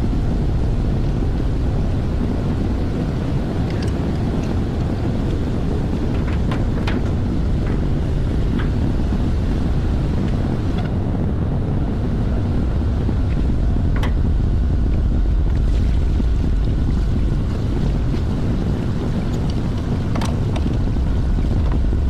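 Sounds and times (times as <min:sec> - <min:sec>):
machinery rumbling: 0:00.0 - 0:22.0.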